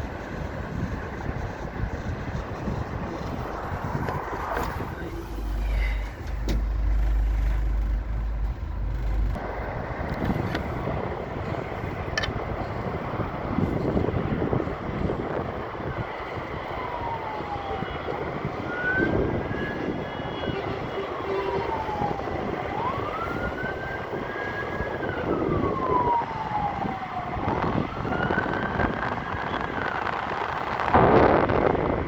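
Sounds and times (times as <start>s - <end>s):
emergency vehicle siren wailing: 0.0s - 32.0s
wind noise on microphone: 0.0s - 32.0s.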